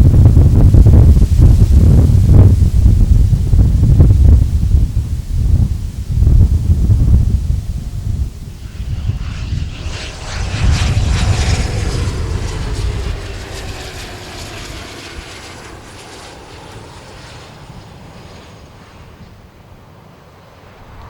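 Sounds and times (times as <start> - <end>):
aircraft engines passing: 0.0 - 21.0.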